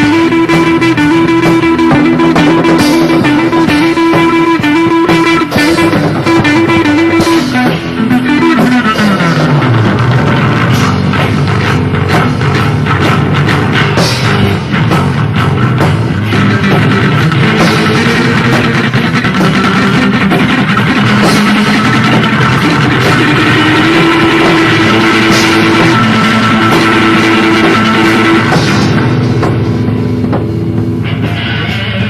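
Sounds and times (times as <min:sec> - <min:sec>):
distorted electric guitar: 0:00.0 - 0:32.0
drum kit: 0:00.0 - 0:32.0.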